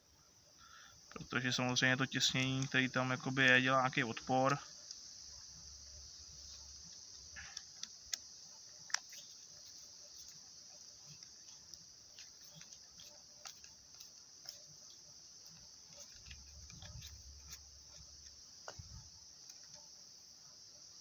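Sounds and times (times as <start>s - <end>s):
faint high-pitched hiss: 0.0s - 21.0s.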